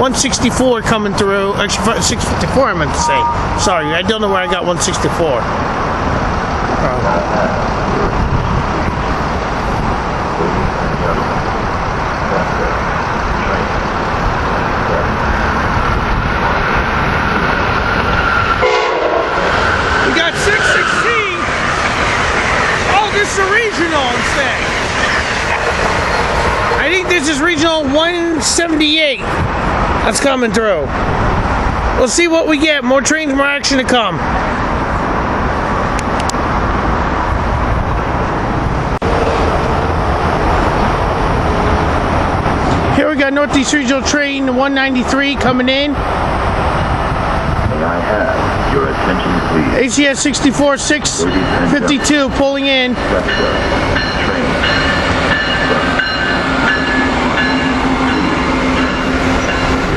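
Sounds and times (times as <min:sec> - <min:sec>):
train wheel and rail rush: 0:00.0 - 0:59.9.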